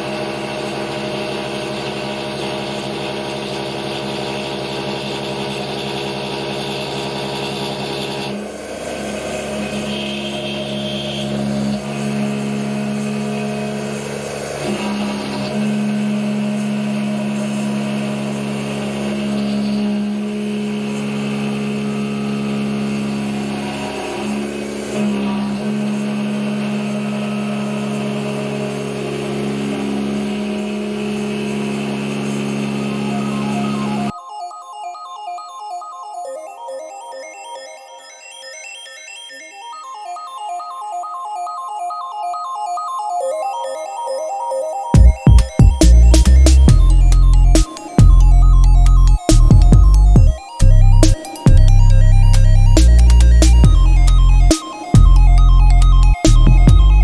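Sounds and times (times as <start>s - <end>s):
milling machine whine: 0.0s - 34.2s, 44.9s - 57.0s.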